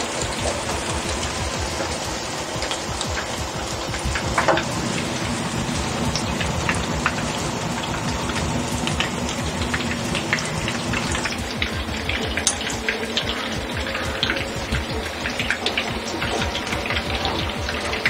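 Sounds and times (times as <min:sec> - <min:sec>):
pakoras deep-frying in oil: 0:00.0 - 0:18.0.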